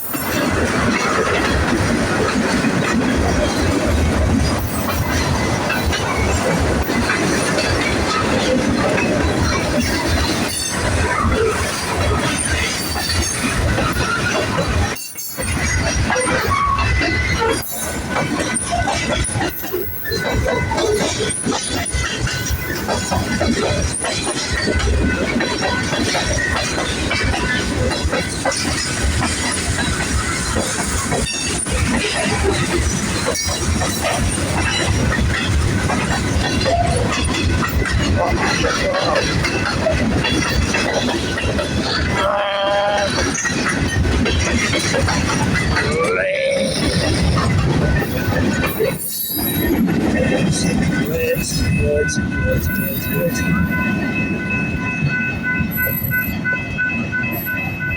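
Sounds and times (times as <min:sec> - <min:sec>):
freight cars rolling on steel wheels: 0:00.0 - 0:57.9.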